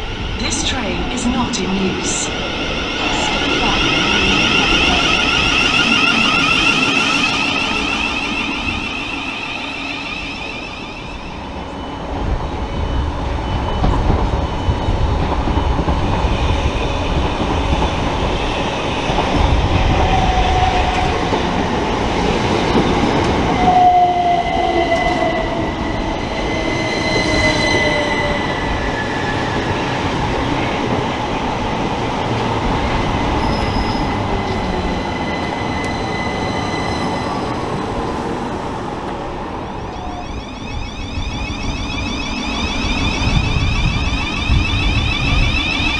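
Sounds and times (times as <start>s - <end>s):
train rumbling through station: 0.0s - 45.9s.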